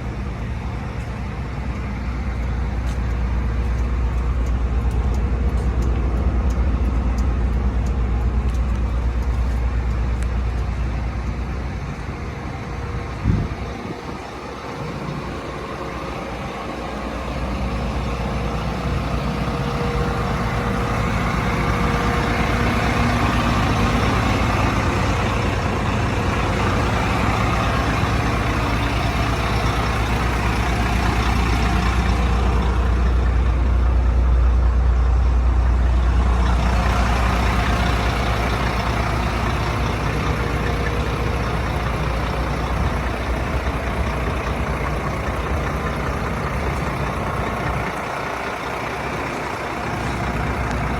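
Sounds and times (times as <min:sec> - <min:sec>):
fire engine rumbling: 0:00.0 - 0:50.9.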